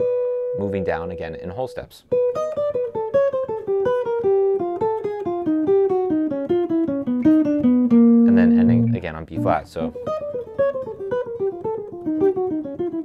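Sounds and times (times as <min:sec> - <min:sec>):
electric guitar jazz line: 0:00.0 - 0:13.0.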